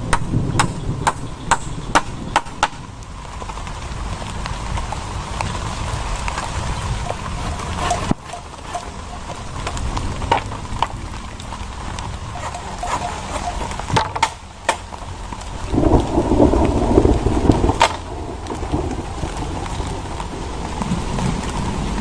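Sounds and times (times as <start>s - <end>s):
heavy rain falling: 0.0s - 22.0s
steady low rumble: 0.0s - 22.0s.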